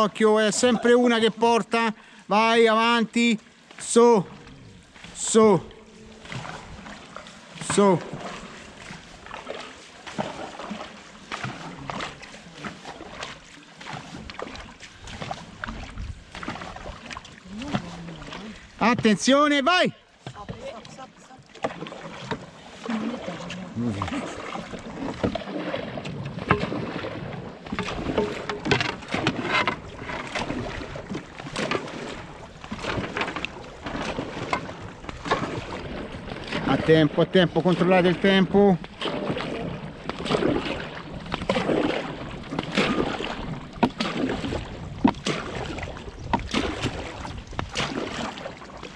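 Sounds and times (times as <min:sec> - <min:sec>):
paddles splashing in water: 0:00.0 - 0:48.9
water noise: 0:00.0 - 0:48.9.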